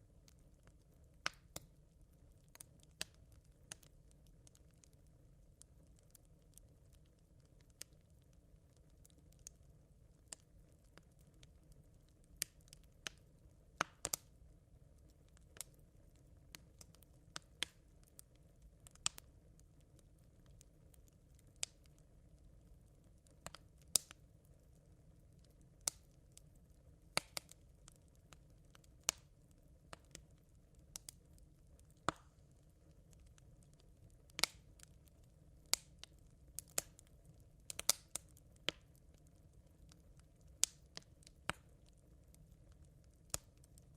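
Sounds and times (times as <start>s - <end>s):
campfire coals crackling: 0.0s - 43.9s.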